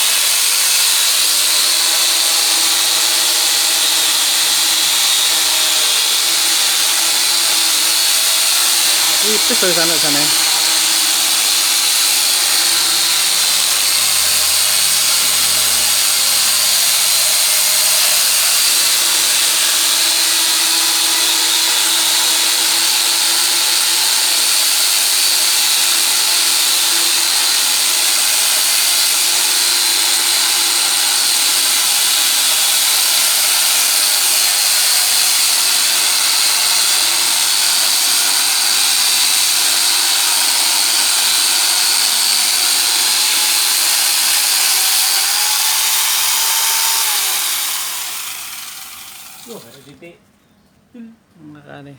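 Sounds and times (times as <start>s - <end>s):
angle grinder cutting wood: 0.0s - 50.0s.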